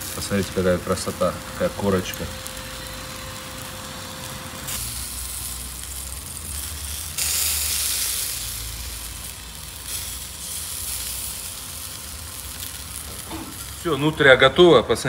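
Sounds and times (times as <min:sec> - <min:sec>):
meat sizzling on a spit: 0:00.0 - 0:15.0.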